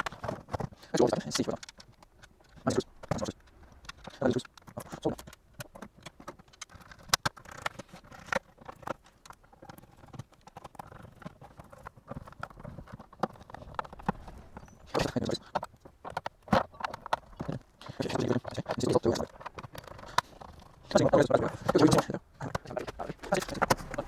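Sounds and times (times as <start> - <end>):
plastic parts clicking and tapping: 0.0 - 24.0.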